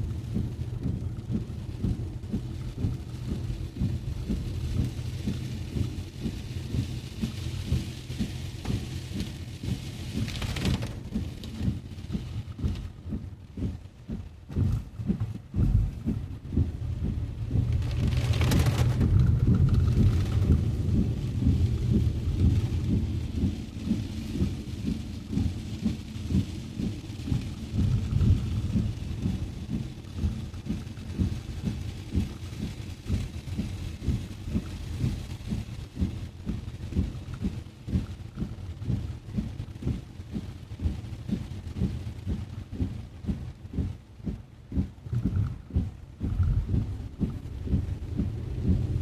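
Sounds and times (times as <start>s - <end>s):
heavy rain on a moving car: 0.0s - 49.0s.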